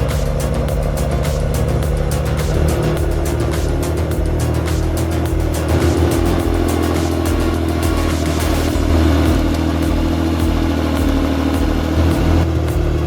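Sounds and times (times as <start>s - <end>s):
music with steady beat: 0.0s - 13.0s.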